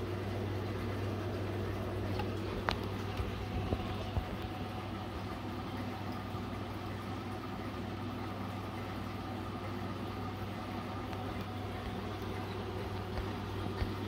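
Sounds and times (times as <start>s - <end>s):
aquarium filter pump humming: 0.0s - 14.0s.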